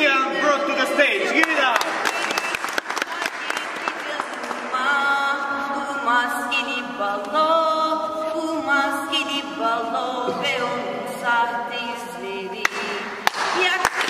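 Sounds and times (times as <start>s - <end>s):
voices singing unaccompanied: 0.0s - 14.0s.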